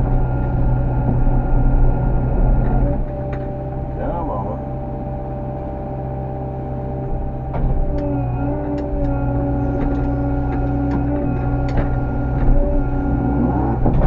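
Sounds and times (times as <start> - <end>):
excavator diesel engine under load: 0.0 - 14.0
hydraulic whine: 0.0 - 14.0.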